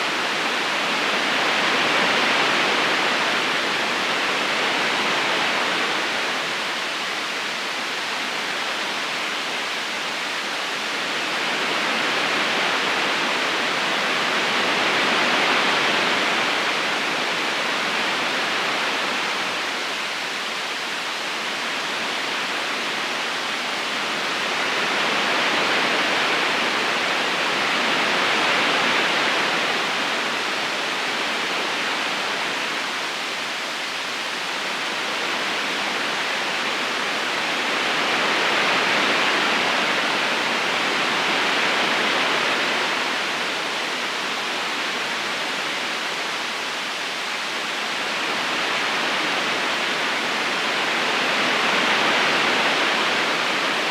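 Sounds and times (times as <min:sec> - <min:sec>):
river water flowing over rocks: 0:00.0 - 0:53.9.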